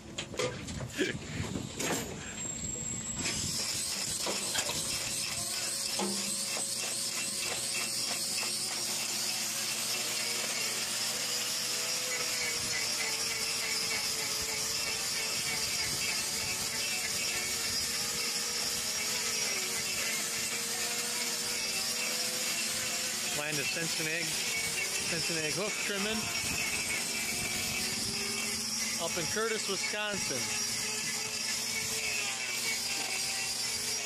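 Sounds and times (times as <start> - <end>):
electric hoof grinder grinding: 0.0 - 34.0.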